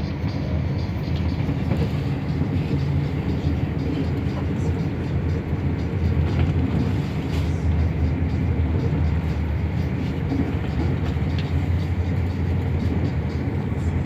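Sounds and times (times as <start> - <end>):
train carriage running rumble: 0.0 - 14.0.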